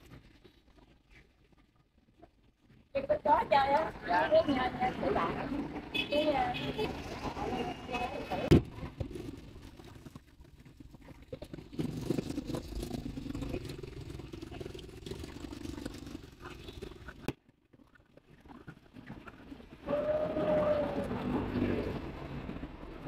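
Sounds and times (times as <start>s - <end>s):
road noise: 2.7s - 17.3s, 19.1s - 23.0s
motor scooters passing: 3.0s - 17.3s, 18.7s - 23.0s.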